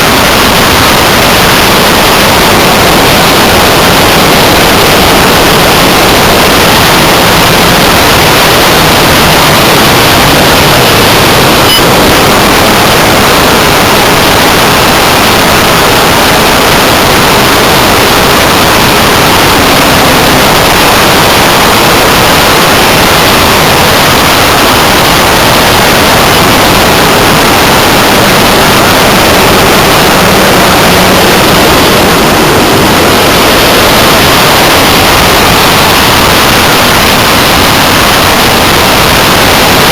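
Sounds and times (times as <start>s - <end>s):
rushing airflow over microphone: 0.0s - 39.9s.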